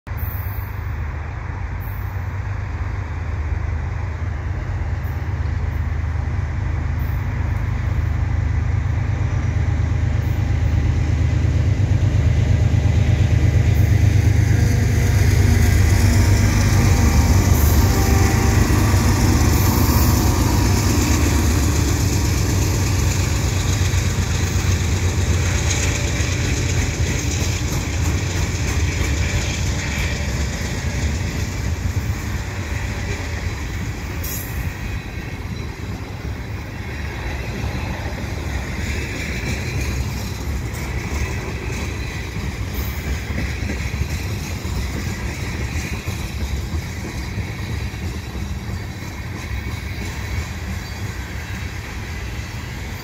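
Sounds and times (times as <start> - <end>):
locomotive engine hum: 0.2 - 53.0
freight cars wheels on rails: 3.8 - 53.0.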